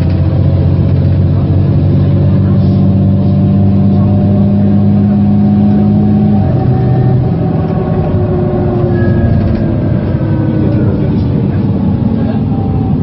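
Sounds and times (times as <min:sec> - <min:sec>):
bus diesel engine at full throttle: 0:00.0 - 0:13.0.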